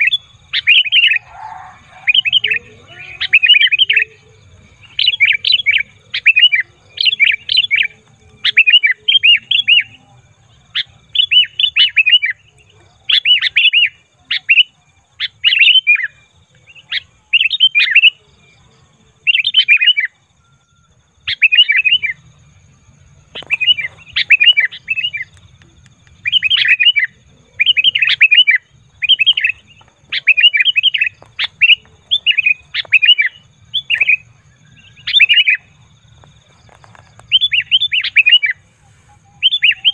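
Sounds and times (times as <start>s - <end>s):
bulbul chattering calls: 0.0s - 18.2s, 19.3s - 20.2s, 21.2s - 22.2s, 23.2s - 35.8s, 36.6s - 39.9s.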